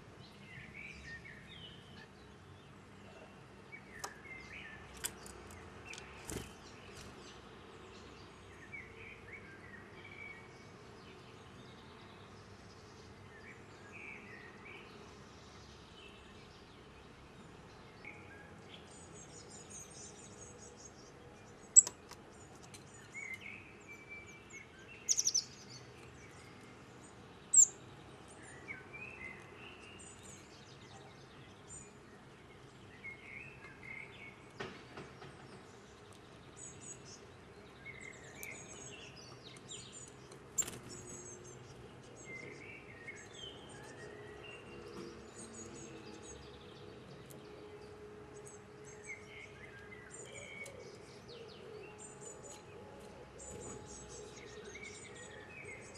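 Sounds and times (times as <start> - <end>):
high songbird chirps: 0.2 - 34.6, 35.4 - 55.9.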